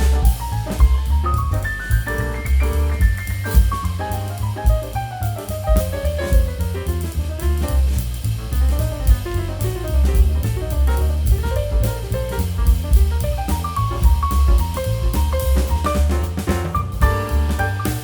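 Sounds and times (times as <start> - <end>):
jazzy background music: 0.0 - 18.0.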